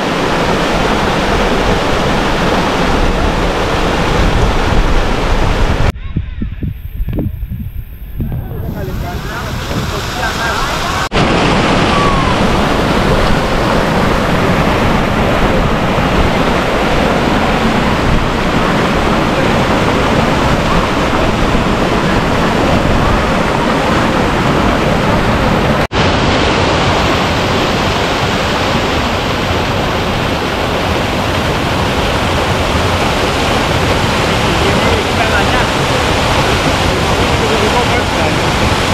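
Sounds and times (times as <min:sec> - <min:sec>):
water rushing down rock cascades: 0:00.0 - 0:05.9, 0:08.6 - 0:38.9.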